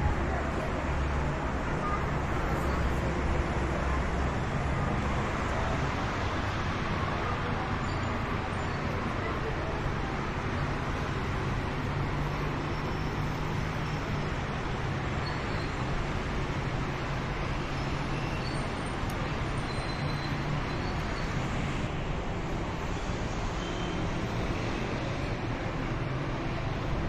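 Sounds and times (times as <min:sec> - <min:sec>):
road traffic rush: 0:00.0 - 0:27.0.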